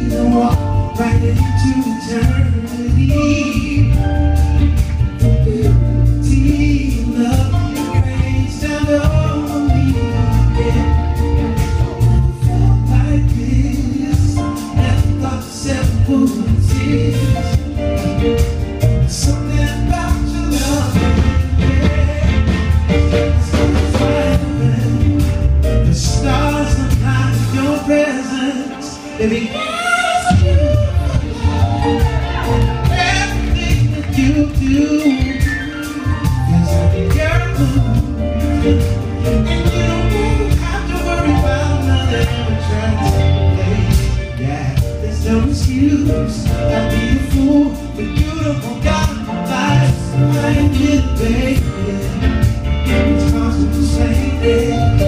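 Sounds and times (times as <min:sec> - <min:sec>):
live band with keyboards and bass: 0:00.0 - 0:55.0
man singing into microphone: 0:00.0 - 0:55.0.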